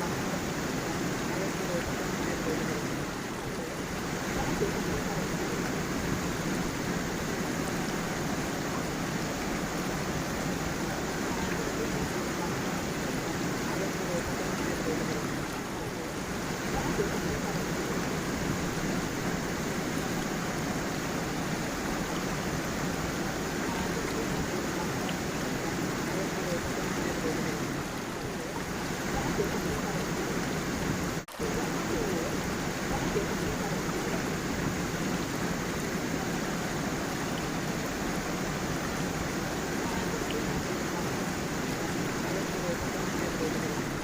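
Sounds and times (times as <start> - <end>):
stream and waterfall rushing: 0.0 - 44.0.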